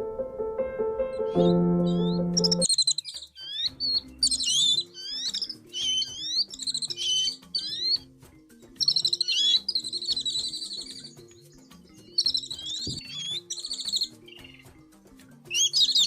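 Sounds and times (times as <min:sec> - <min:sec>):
quiet background music: 0:00.0 - 0:16.0
songbirds chirping: 0:01.0 - 0:16.0.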